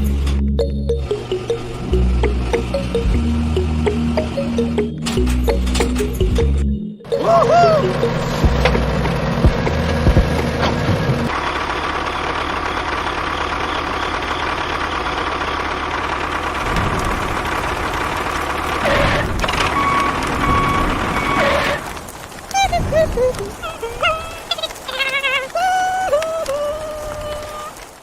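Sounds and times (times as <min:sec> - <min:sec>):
engine running: 0:00.0 - 0:22.6.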